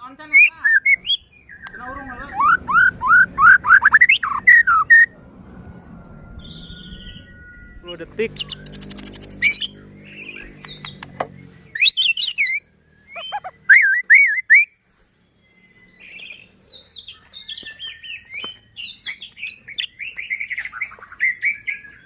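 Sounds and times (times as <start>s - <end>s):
bird singing whistled notes: 0.1s - 5.1s, 5.7s - 22.0s.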